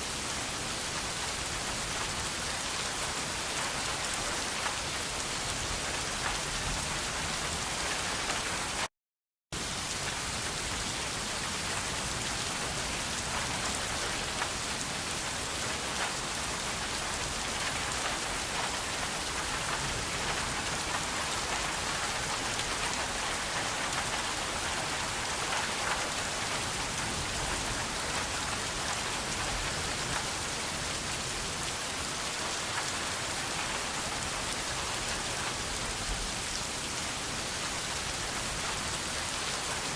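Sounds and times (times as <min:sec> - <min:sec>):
steady rain falling: 0:00.0 - 0:08.9, 0:09.6 - 0:39.9.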